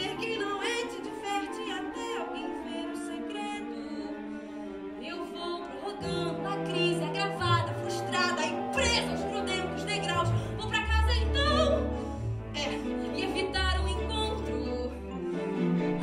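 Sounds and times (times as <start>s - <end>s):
woman singing: 0.0s - 4.3s, 5.0s - 11.9s, 12.6s - 15.1s
instrumental accompaniment: 0.0s - 16.0s.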